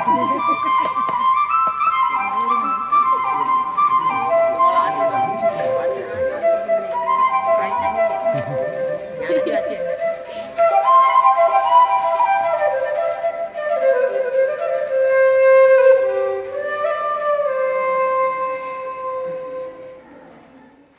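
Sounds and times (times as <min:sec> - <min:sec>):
slow flute melody: 0:00.0 - 0:20.5.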